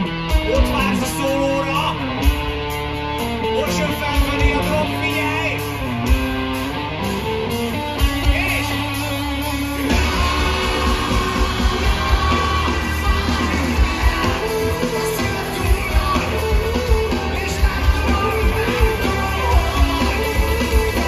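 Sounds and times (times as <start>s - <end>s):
live rock band through pa: 0.0s - 21.0s.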